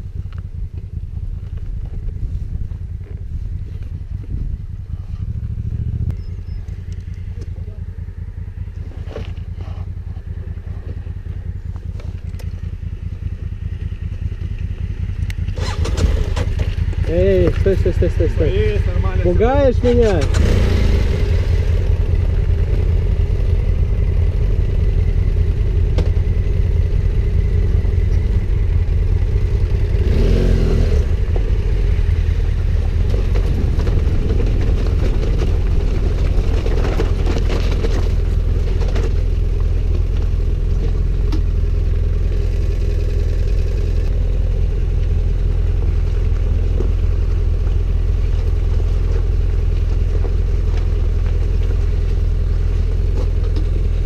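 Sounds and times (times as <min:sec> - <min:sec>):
heavy low rumble: 0:00.0 - 0:54.0
motorcycle engine running: 0:00.0 - 0:54.0.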